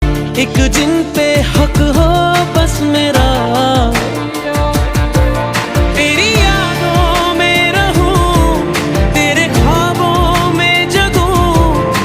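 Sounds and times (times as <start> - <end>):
person singing wavering melody: 0.8 - 12.0
deep kick drum beat: 1.5 - 3.9, 4.6 - 12.0.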